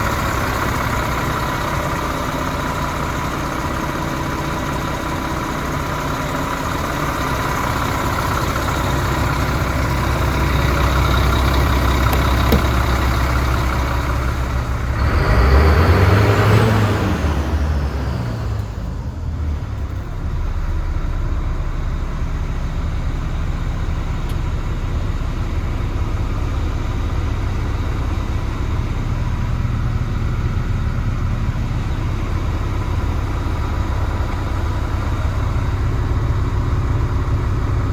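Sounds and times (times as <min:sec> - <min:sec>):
diesel truck engine idling and revving: 0:00.0 - 0:37.9.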